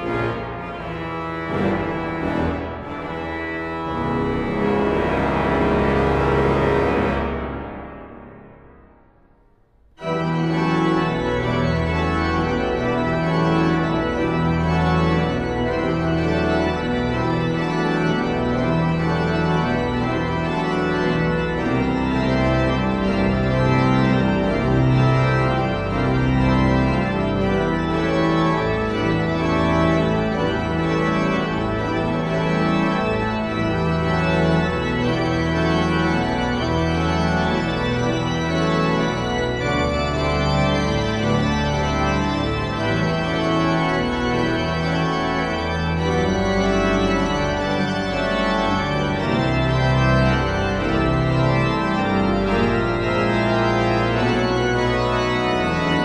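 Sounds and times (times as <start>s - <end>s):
pipe organ playing chords: 0.0s - 9.2s, 10.0s - 56.0s.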